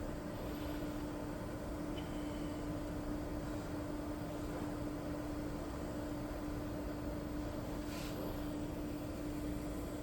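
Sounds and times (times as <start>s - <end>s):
printer humming: 0.0s - 10.0s.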